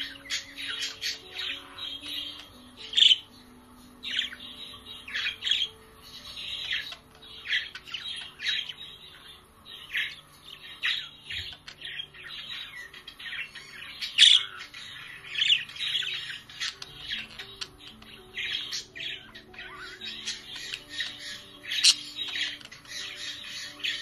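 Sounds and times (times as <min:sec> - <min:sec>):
budgerigars chirping and chattering: 0:00.0 - 0:24.0.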